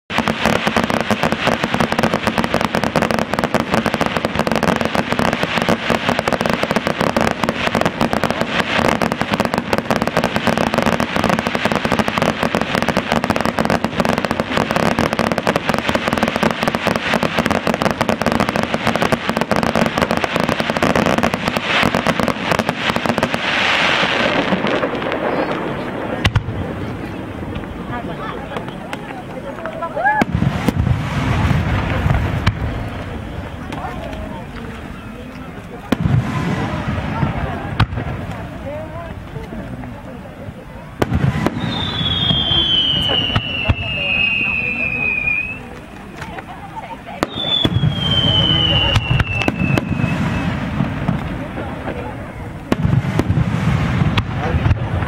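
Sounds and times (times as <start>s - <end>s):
fireworks bursting and crackling: 0.1s - 55.0s.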